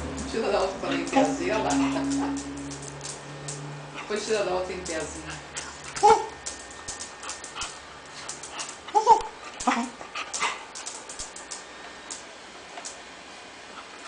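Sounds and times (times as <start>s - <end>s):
paws scuffling on tile floor: 0.0s - 13.0s.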